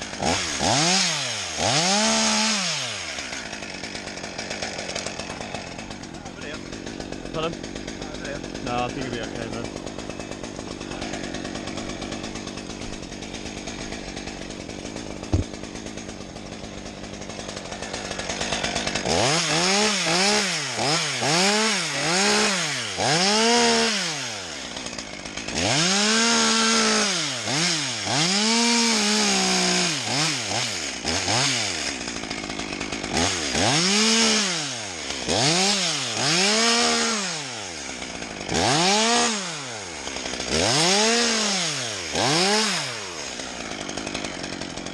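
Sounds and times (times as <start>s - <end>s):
small engine revving: 0.0s - 44.9s.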